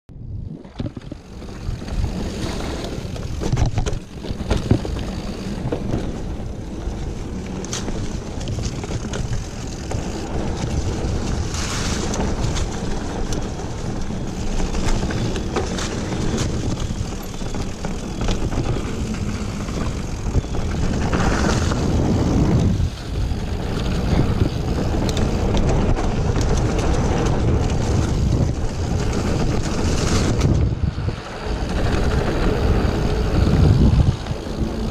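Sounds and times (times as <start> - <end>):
wind rush on microphone: 0.1 - 34.9
bike tyre noise on dirt: 0.2 - 34.9
bike clicks and rattles: 0.6 - 34.9.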